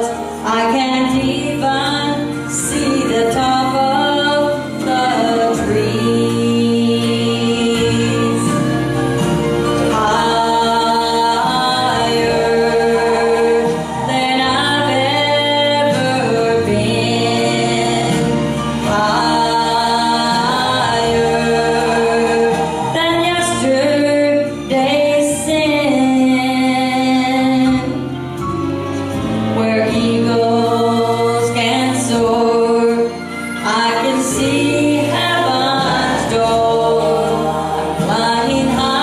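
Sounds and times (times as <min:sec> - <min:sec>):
woman singing gospel song: 0:00.0 - 0:28.2, 0:29.4 - 0:39.0.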